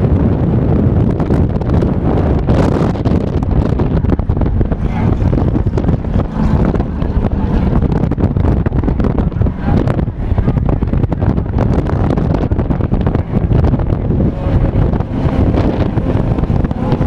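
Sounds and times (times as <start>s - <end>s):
race cars running: 0.0s - 17.0s
storm wind buffeting microphone: 0.0s - 17.0s.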